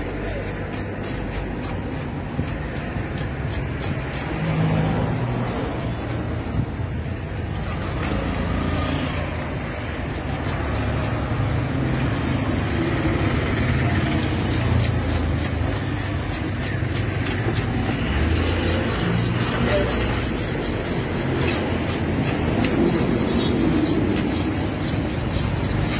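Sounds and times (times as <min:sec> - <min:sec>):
fish scaler rasping: 0:00.0 - 0:25.9.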